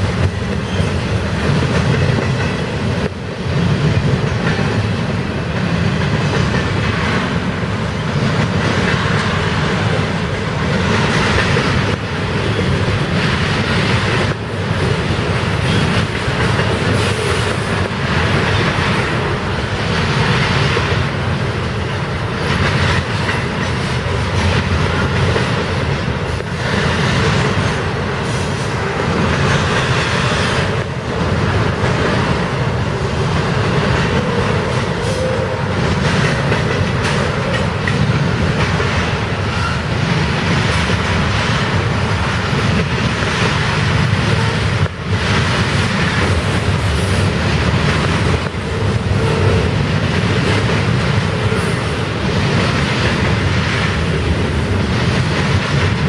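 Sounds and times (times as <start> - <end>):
train wheels rumbling on rails: 0.0 - 56.0
wheels clacking over rail joints: 0.0 - 56.0.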